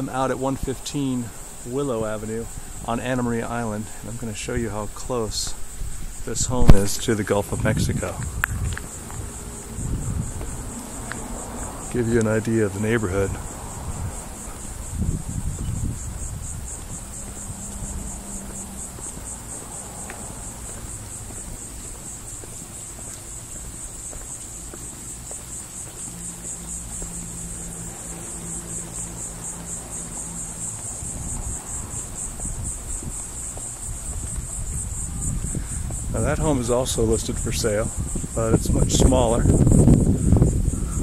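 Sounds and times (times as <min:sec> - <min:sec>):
insects trilling: 0:00.0 - 0:41.0.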